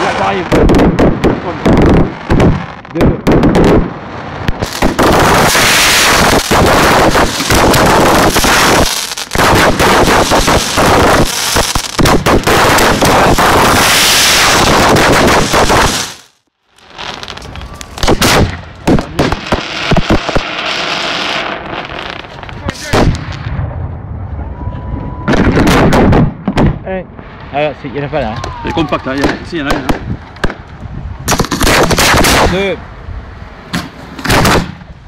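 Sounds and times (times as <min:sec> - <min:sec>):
fireworks bursting and crackling: 0:00.0 - 0:23.8, 0:25.1 - 0:32.8, 0:33.8 - 0:35.0.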